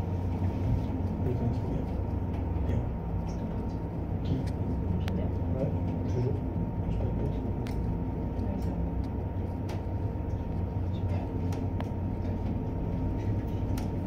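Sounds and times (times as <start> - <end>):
cable car low rumble and hum: 0.0 - 14.0
thin steady whine: 0.0 - 14.0.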